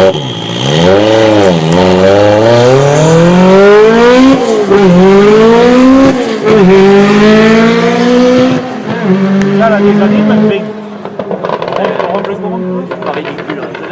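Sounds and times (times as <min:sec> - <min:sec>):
race car engine accelerating: 0:00.0 - 0:13.9.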